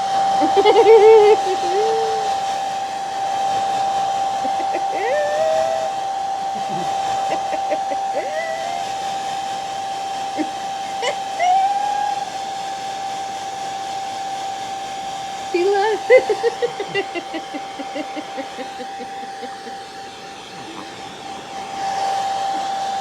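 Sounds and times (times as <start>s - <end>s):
hair dryer blowing: 0.0s - 23.0s
short rising calls: 0.0s - 23.0s.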